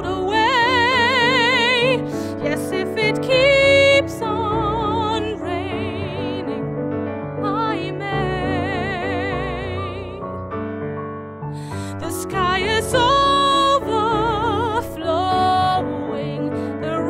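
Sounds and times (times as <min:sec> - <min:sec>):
woman singing with vibrato: 0:00.0 - 0:06.7, 0:07.4 - 0:10.3, 0:11.8 - 0:17.0
piano accompaniment: 0:00.0 - 0:17.0.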